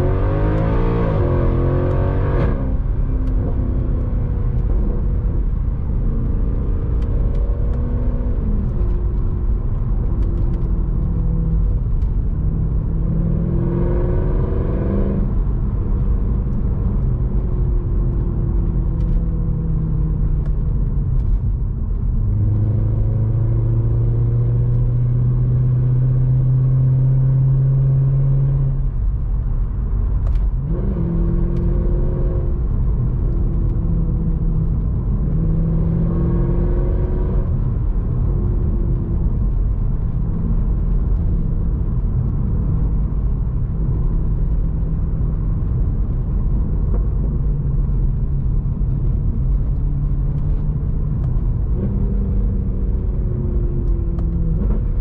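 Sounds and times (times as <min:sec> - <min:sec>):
car engine and exhaust: 0:00.0 - 0:55.0
low road rumble: 0:00.0 - 0:55.0.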